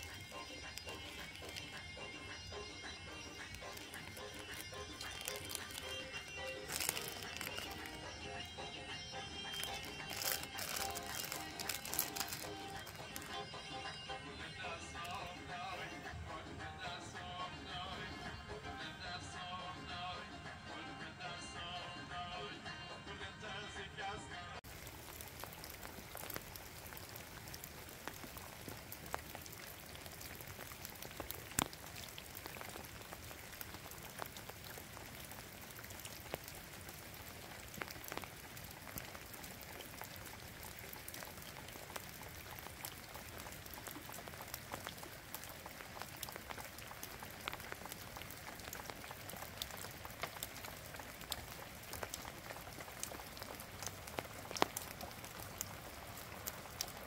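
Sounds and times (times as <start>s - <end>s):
raindrops ticking on hard surface: 0.0s - 14.0s, 14.6s - 16.0s, 24.6s - 57.0s
steady rain: 0.0s - 16.6s, 24.6s - 57.0s.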